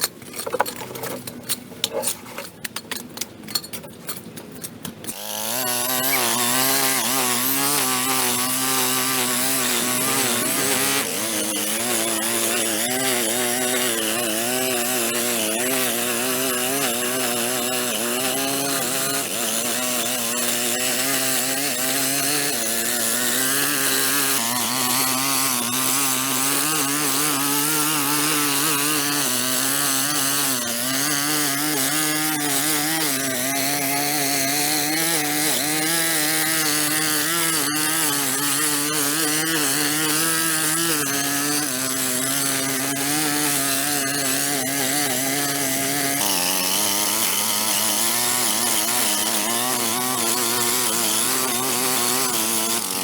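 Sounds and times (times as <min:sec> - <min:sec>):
small gas engine running: 0:05.0 - 0:53.0.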